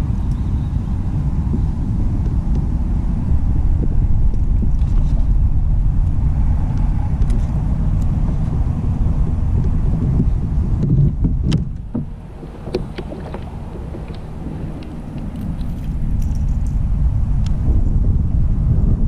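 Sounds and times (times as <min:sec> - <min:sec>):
water noise: 0:00.0 - 0:19.0
wind on microphone: 0:00.0 - 0:19.0.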